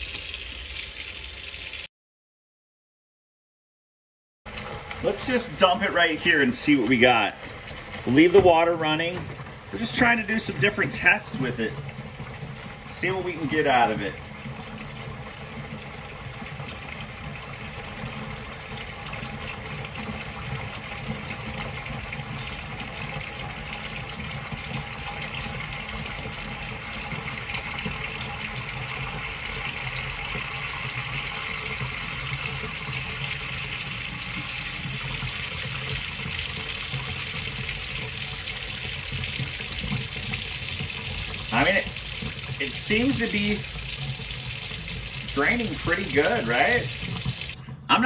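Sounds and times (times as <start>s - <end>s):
faucet running into steel sink: 0.0s - 1.9s, 4.5s - 47.6s.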